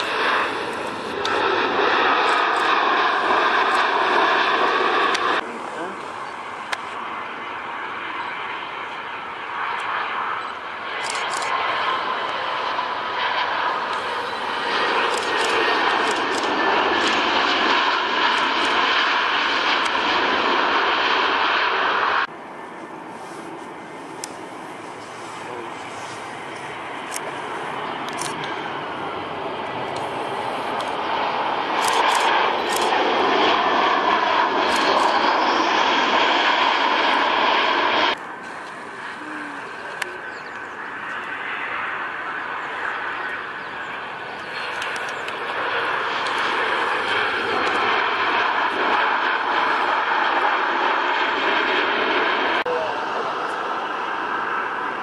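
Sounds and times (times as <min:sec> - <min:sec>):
jet engines rushing and whining: 0:00.0 - 0:55.0.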